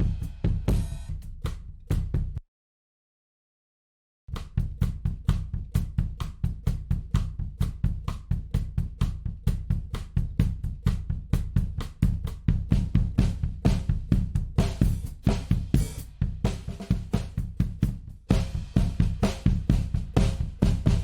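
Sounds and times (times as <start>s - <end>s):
drum kit beat: 0.0s - 2.4s, 4.3s - 21.0s.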